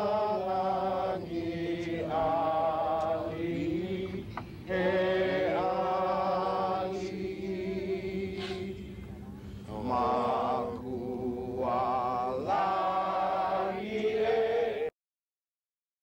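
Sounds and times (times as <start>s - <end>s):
steady low drone: 0.0s - 14.1s
voices chanting with vibrato: 0.0s - 14.9s.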